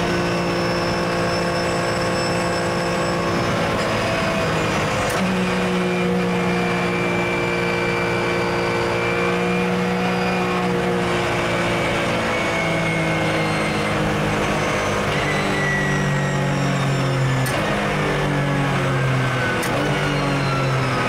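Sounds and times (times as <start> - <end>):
racing engine from inside cabin: 0.0 - 21.0.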